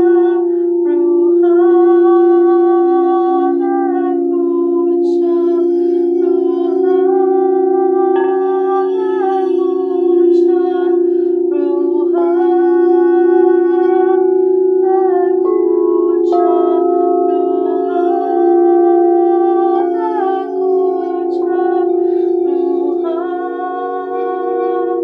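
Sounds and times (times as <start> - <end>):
high sustained tones: 0.0 - 25.0
singing bowls drone: 0.0 - 25.0.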